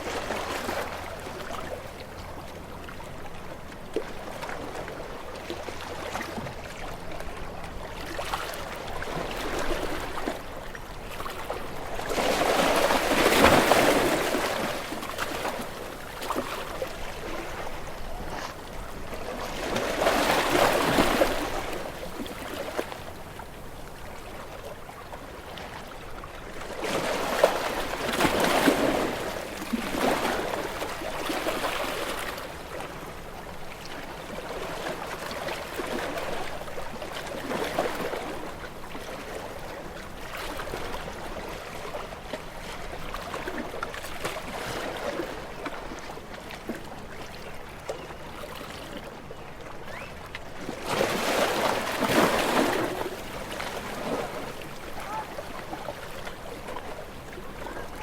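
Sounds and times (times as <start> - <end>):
small waves washing onto shore: 0.0 - 47.3, 49.9 - 58.0.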